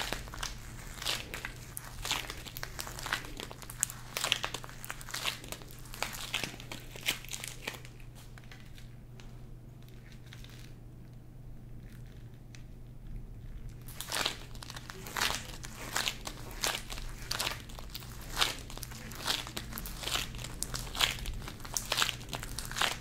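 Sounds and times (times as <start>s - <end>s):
sugar dough crackling: 0.0s - 8.9s, 9.8s - 23.0s.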